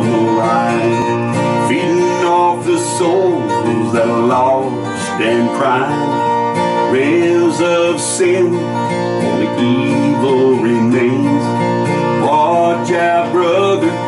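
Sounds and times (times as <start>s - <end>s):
sliding melodic lead line: 0.0s - 14.0s
strummed acoustic guitar: 0.0s - 14.0s.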